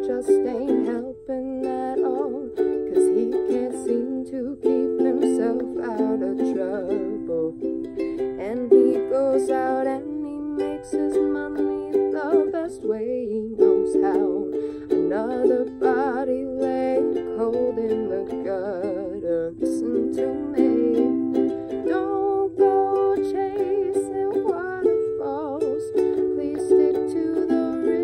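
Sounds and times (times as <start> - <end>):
ukulele strumming chords: 0.0 - 28.0
woman singing: 0.0 - 28.0.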